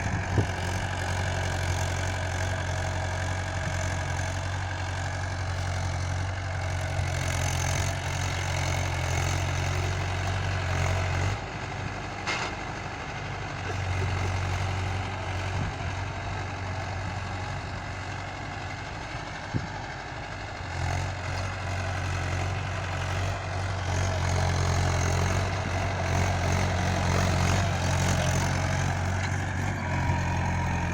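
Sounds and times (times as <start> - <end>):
tractor diesel engine idling: 0.0 - 30.9.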